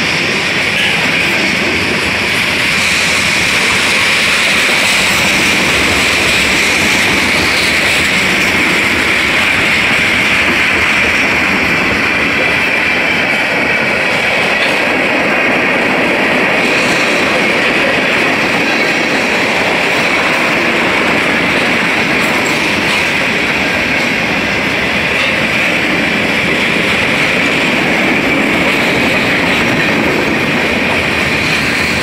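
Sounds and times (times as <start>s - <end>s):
steel train wheels on rails: 0.0s - 32.0s.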